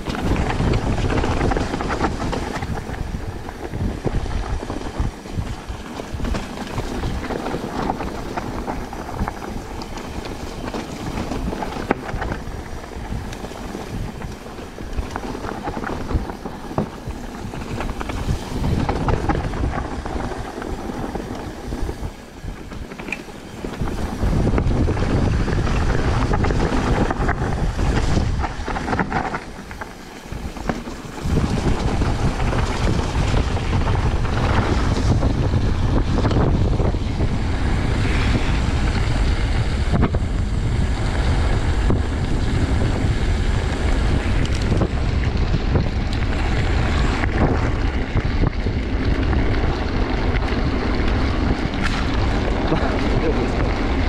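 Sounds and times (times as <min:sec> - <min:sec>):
bike rattling: 0:00.0 - 0:54.0
bike tyres crunching on trail: 0:00.0 - 0:54.0
wind buffeting microphone: 0:00.0 - 0:54.0.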